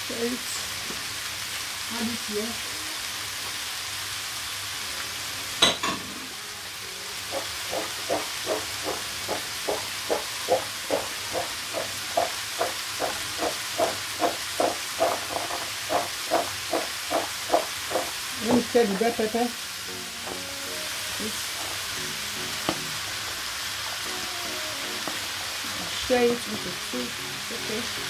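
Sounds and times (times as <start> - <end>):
vegetables sizzling in a frying pan: 0.0 - 28.0.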